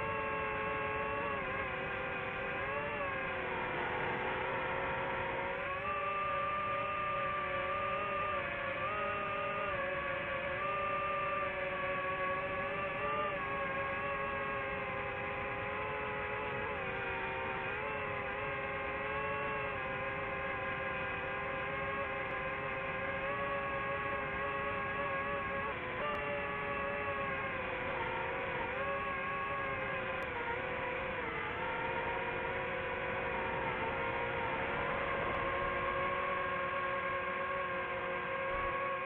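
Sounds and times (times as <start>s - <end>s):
drone propellers whining: 0.0s - 39.0s.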